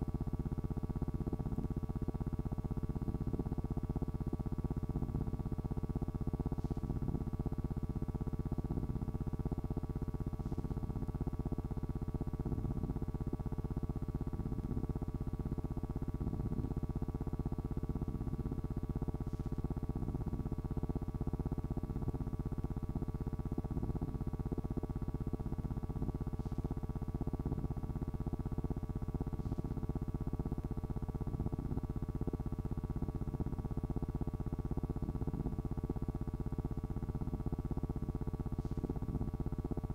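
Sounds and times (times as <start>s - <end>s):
low hum and noise: 0.0s - 39.9s.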